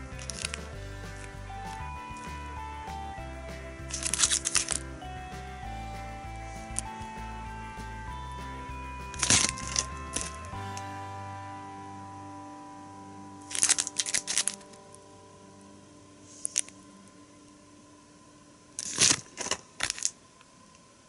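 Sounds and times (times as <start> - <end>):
background music chord: 0.0 - 20.4.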